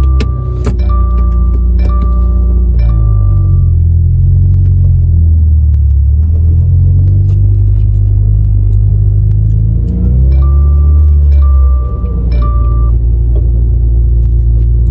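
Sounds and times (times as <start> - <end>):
car engine rumble revving: 0.0 - 14.9.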